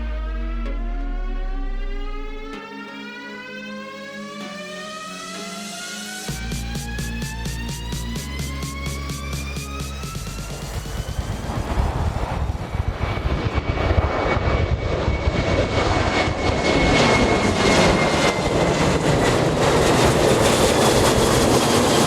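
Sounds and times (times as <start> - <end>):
high whine sliding down: 0.0 - 19.1
jet engine roar: 4.0 - 22.0.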